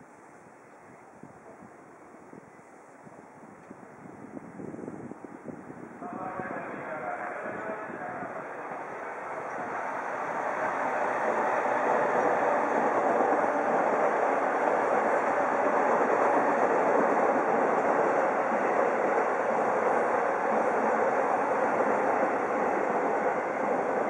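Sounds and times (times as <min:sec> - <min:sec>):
train wheels on rail: 0:01.5 - 0:24.0.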